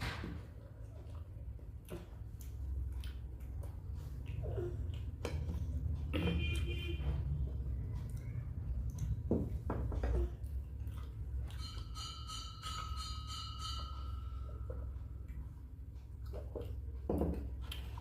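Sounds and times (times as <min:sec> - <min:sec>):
close-miked eating sounds: 0:00.4 - 0:18.0.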